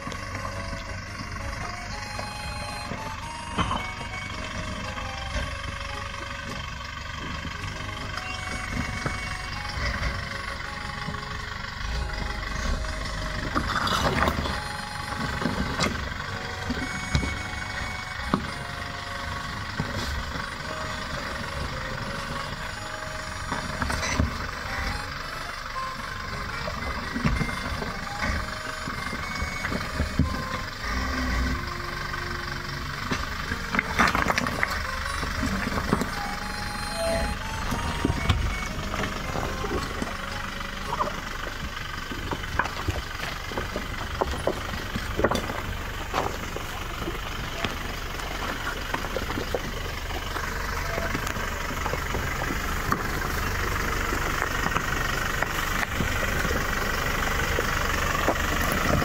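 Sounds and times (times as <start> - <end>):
vehicle engine and tyre noise: 0.0 - 59.0
vehicle knocks and rattles: 0.0 - 59.0.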